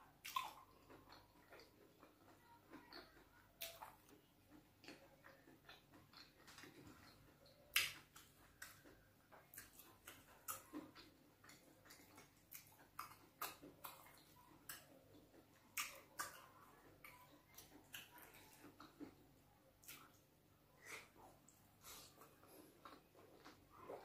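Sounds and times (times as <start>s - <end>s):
wet chewing and mouth smacks: 0.1s - 24.0s.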